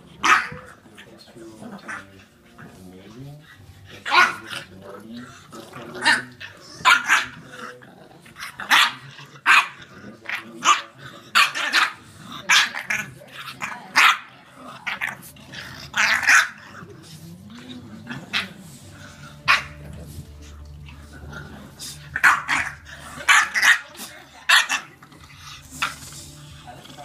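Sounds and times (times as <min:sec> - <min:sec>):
dogs barking: 0:00.0 - 0:17.3, 0:17.9 - 0:27.0
dogs growling: 0:00.0 - 0:27.0.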